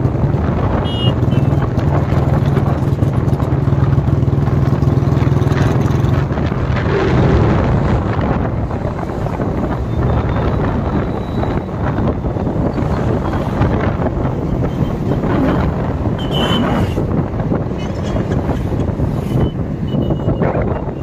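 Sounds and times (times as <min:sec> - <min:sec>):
motorcycle engine running: 0:00.0 - 0:19.5
wind rushing over microphone: 0:00.0 - 0:21.0.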